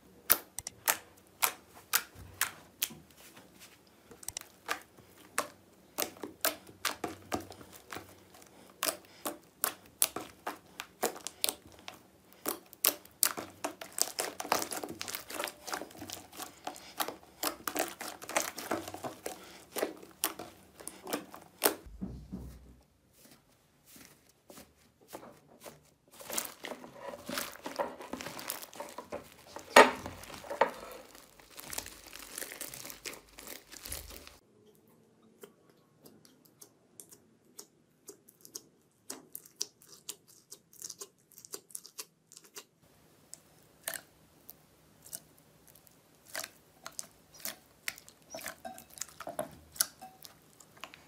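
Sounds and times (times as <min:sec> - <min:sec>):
hands squishing slime: 0:00.2 - 0:21.9, 0:23.9 - 0:34.4, 0:35.4 - 0:51.0.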